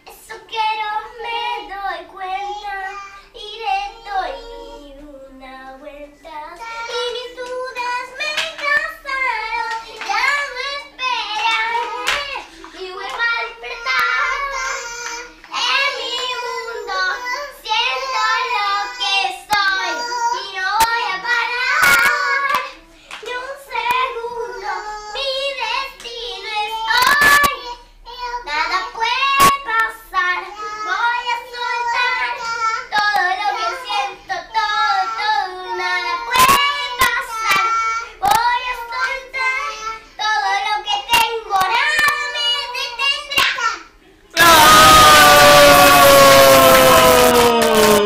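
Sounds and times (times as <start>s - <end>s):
girl singing: 0.0s - 43.8s.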